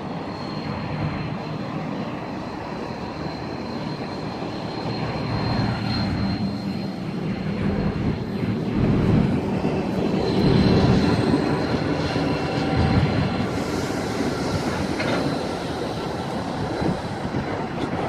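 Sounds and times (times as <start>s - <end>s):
high wheel squeal: 0.0s - 18.0s
train wheels rumbling on rails: 0.0s - 18.0s.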